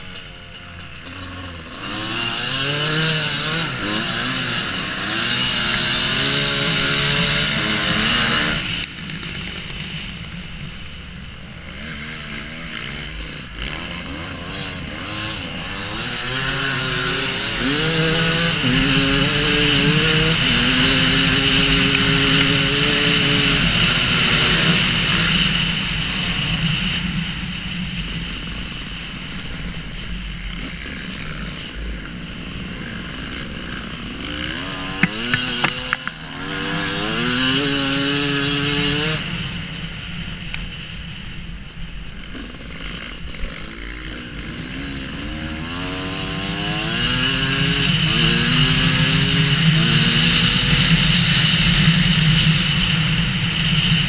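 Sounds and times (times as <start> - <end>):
motorcycle engine revving: 0.0 - 41.0, 42.2 - 54.0.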